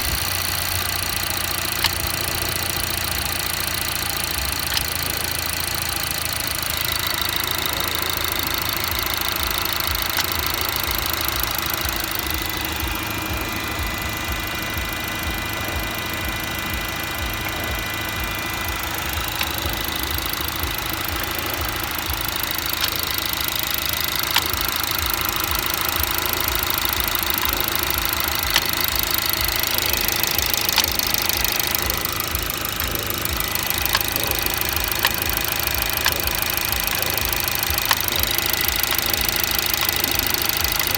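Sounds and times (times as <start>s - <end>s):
car engine running: 0.0s - 40.9s
sharp mechanical clicks: 0.0s - 40.9s.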